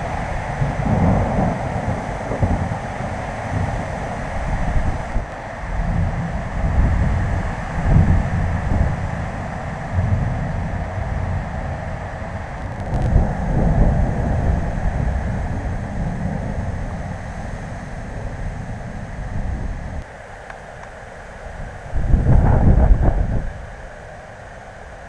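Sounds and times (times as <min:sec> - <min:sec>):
thunder rumbling: 0:00.0 - 0:20.0, 0:21.6 - 0:23.6
steady hiss: 0:00.0 - 0:25.0.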